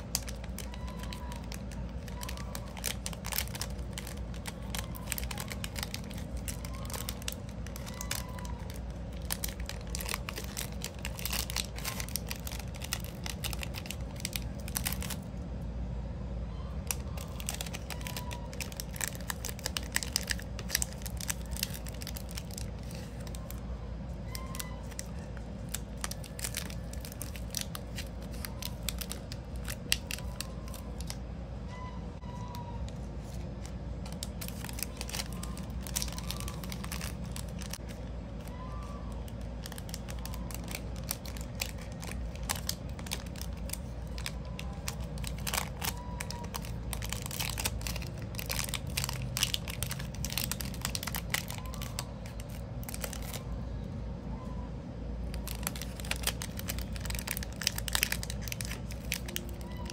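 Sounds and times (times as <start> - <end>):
plastic bag crinkling: 0.0 - 15.4, 16.8 - 31.2, 33.2 - 53.6, 55.2 - 59.9.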